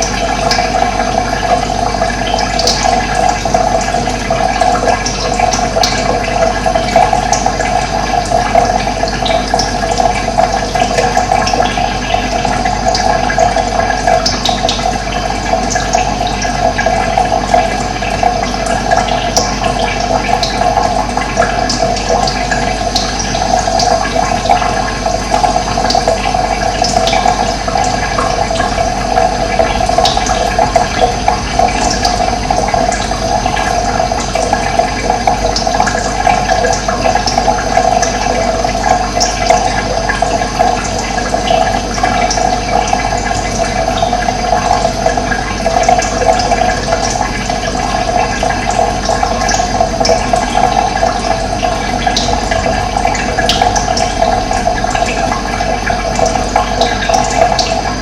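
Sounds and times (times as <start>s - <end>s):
water rushing and gurgling: 0.0s - 58.0s.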